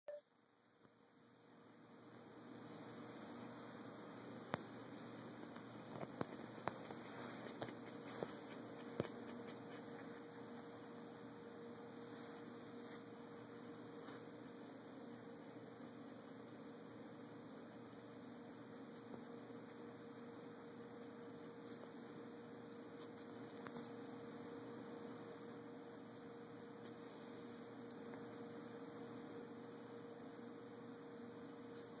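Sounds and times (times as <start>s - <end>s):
room tone hum and hiss: 0.1s - 32.0s.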